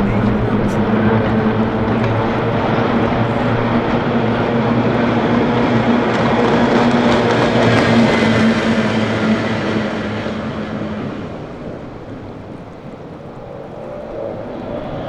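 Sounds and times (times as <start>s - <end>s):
racing boat engines passing: 0.0s - 15.0s.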